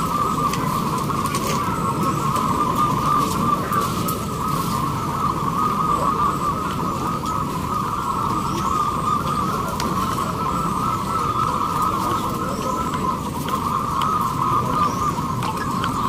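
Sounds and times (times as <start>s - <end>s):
crowd murmur: 0.0s - 16.0s
doves cooing: 0.0s - 16.0s.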